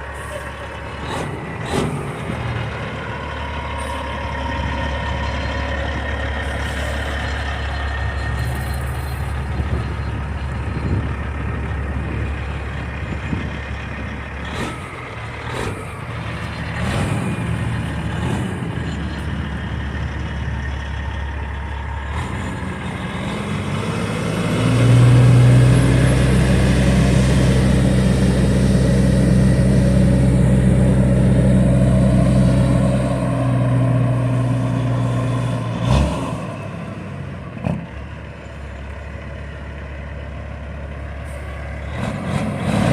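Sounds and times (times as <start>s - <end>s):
loud engine drone: 0.0s - 42.9s
vehicle engines running: 0.0s - 42.9s.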